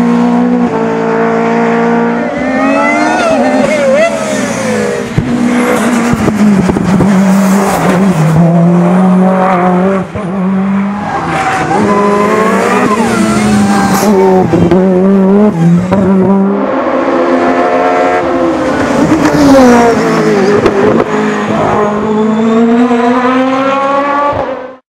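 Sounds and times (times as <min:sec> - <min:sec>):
racing car engines at high revs: 0:00.0 - 0:24.8.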